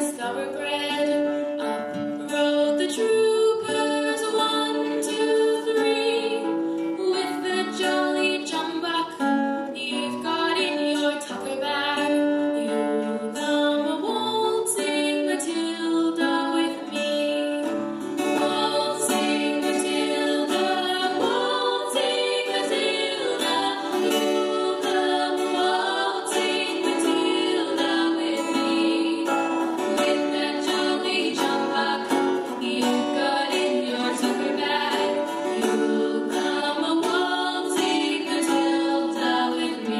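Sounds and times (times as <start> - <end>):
acoustic guitar: 0.0 - 39.9
girls singing: 0.0 - 39.9.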